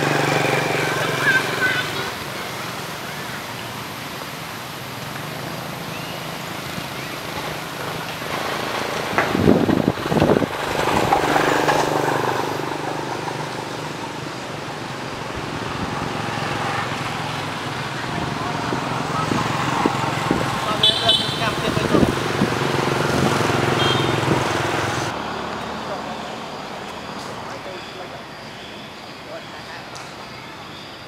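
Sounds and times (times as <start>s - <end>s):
vehicle passing: 0.0s - 30.0s
road traffic noise: 0.0s - 31.0s.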